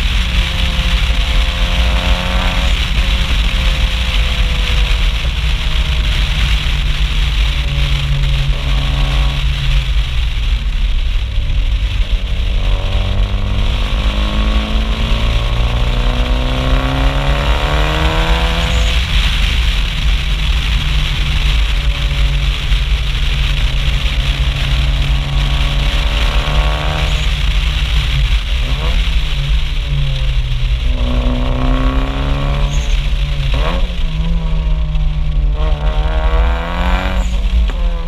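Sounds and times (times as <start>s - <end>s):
car exhaust revving: 0.0s - 38.0s
wind rush on microphone: 0.0s - 38.0s.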